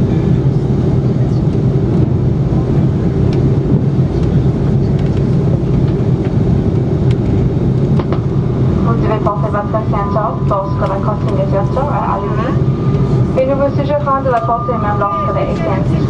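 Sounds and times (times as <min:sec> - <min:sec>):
aircraft engines humming in cabin: 0:00.0 - 0:16.0.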